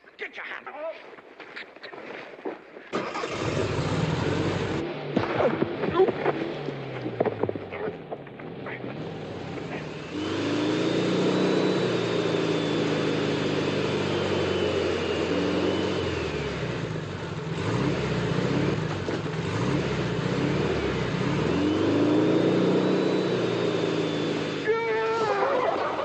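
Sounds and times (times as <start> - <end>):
car engine revving hard: 3.0 - 26.0.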